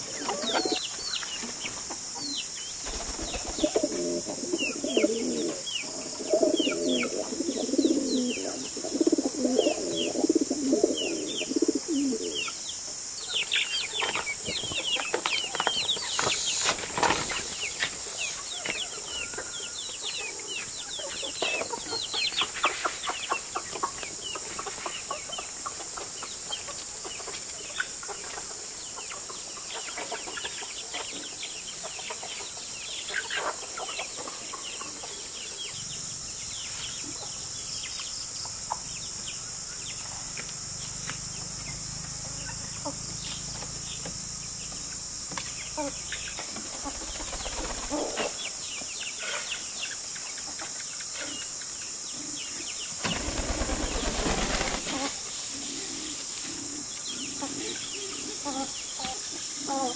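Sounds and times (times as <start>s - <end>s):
chickens clucking and chirping: 0.0s - 59.9s.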